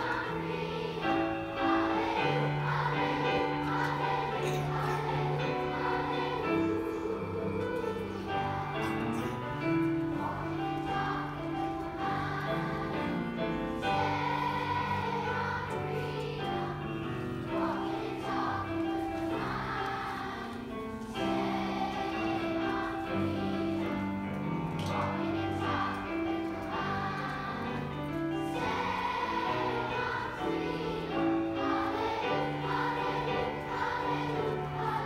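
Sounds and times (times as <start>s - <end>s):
children's choir singing: 0.0s - 35.0s.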